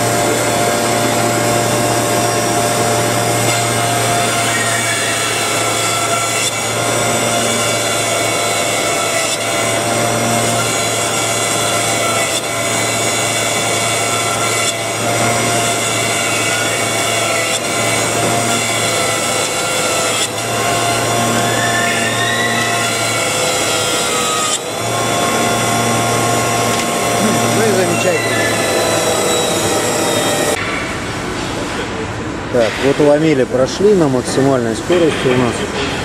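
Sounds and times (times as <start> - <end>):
milling machine running: 0.0 - 30.6.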